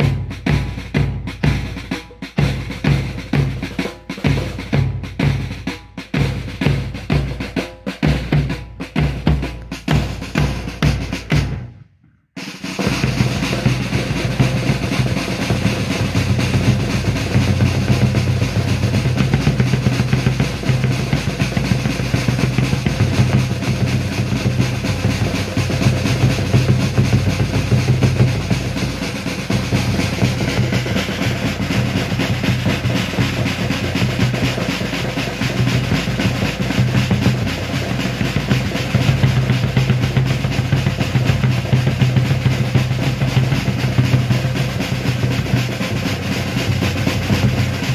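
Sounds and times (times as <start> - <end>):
snare and bass drum roll: 0.0 - 47.9.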